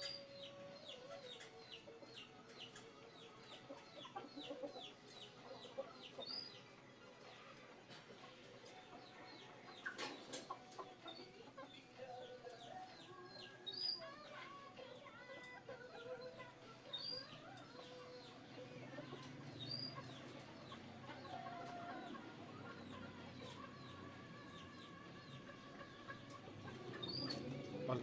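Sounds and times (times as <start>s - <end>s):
faint chickens clucking: 0.0s - 28.0s.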